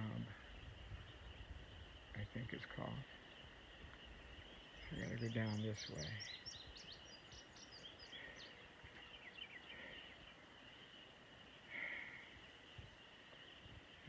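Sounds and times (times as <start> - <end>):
faint birdsong chirping: 0.0 - 14.0.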